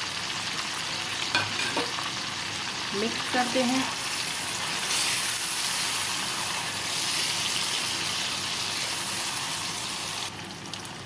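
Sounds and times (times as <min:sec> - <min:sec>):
food sizzling in hot fat: 0:00.0 - 0:11.0.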